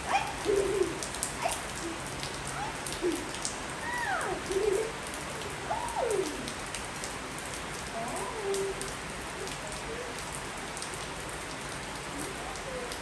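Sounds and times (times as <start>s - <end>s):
rain on a tiled roof: 0.0s - 13.0s.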